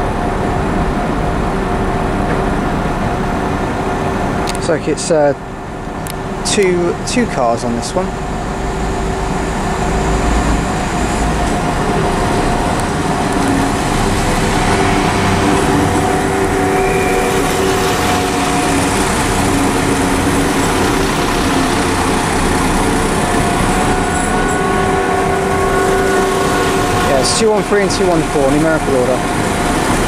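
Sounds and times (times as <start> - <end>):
diesel train engine drone: 0.0 - 30.0.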